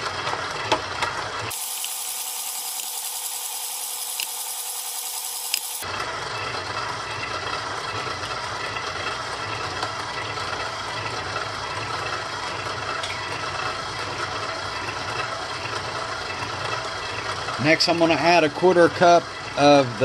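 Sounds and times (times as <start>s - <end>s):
stand mixer motor humming: 0.0s - 17.6s.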